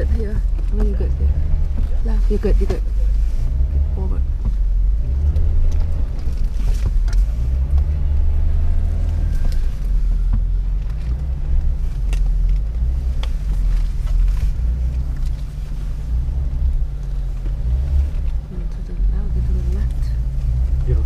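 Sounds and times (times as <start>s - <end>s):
off-road vehicle engine rumbling: 0.0s - 21.0s.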